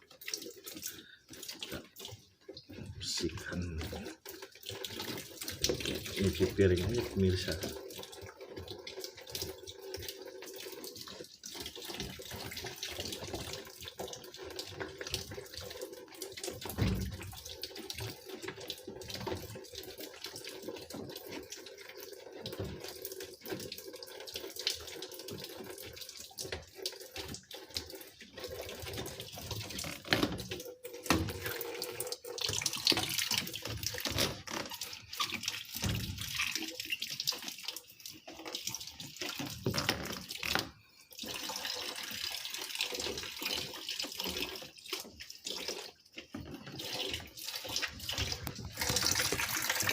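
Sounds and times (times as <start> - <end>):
tap water running: 0.0 - 49.9.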